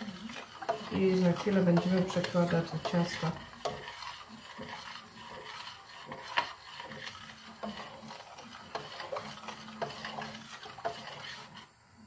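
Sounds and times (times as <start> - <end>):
utensil scraping steel pot: 0.0 - 12.0.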